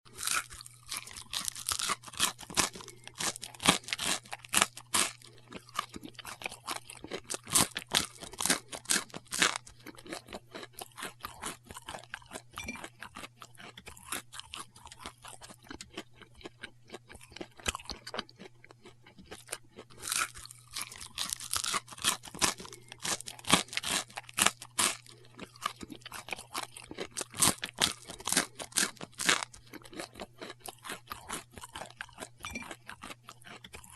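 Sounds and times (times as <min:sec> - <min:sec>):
man chewing crunchily: 0:00.1 - 0:33.9.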